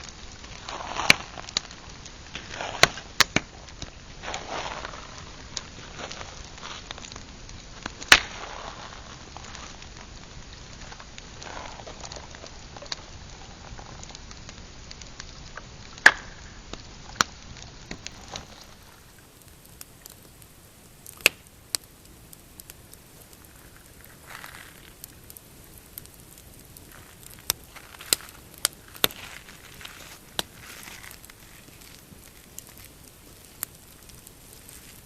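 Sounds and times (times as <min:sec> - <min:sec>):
campfire crackling: 0:00.0 - 0:35.0
fire snaps and pops: 0:00.0 - 0:35.0.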